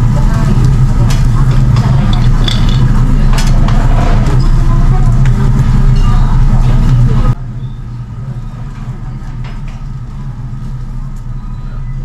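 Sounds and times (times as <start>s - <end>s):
grill fan humming: 0.0s - 12.0s.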